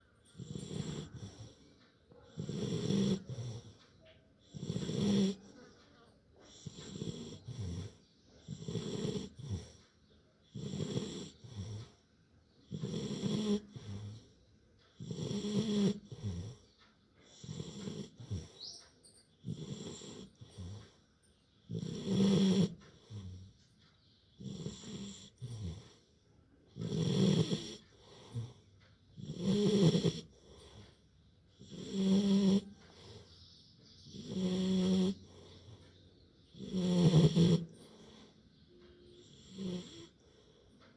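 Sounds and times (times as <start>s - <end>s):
puppy snoring: 0.0s - 40.9s.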